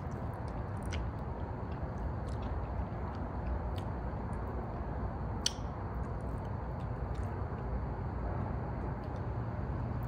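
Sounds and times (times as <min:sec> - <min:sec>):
people chewing food: 0:00.0 - 0:09.3
low room hum: 0:00.0 - 0:10.0.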